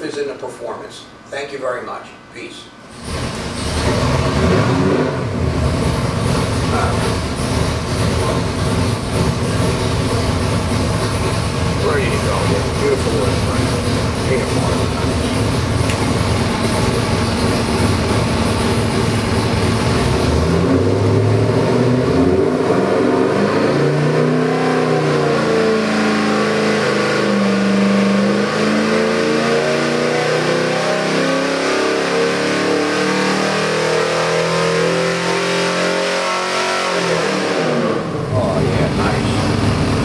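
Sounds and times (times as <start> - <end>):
engine revving on dynamometer: 2.9 - 40.0.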